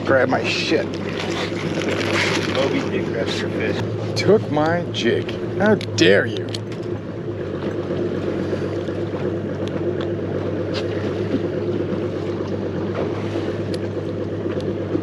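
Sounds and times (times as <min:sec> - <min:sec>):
low mechanical hum: 0:00.0 - 0:15.0
water noise: 0:00.0 - 0:15.0
wind: 0:00.0 - 0:15.0.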